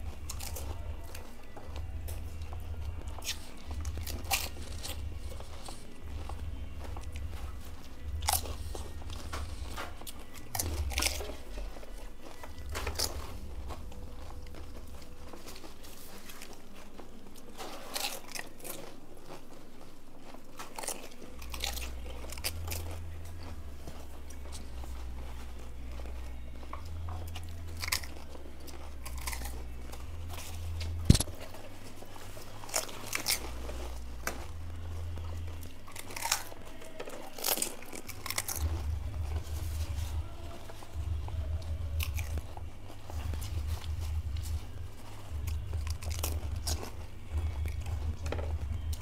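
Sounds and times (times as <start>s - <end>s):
chewing: 0.0s - 49.0s
crisp shells crunching: 0.0s - 49.0s.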